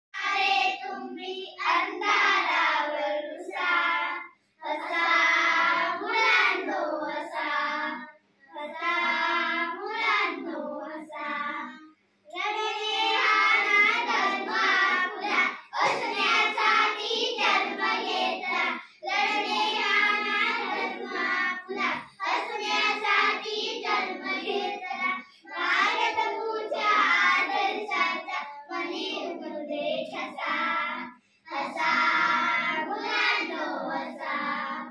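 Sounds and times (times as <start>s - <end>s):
children singing together: 0.2s - 34.9s.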